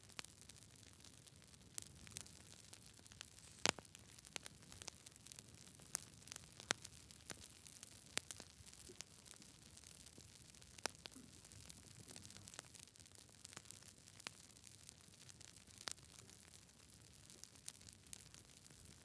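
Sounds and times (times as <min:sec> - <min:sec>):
campfire crackling and popping: 0:00.0 - 0:19.0
low steady fire hiss: 0:00.0 - 0:19.0.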